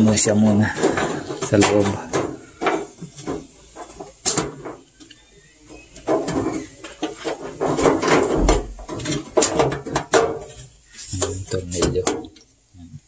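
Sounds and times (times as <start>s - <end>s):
clattering and rubbing of parts: 0.0s - 12.7s.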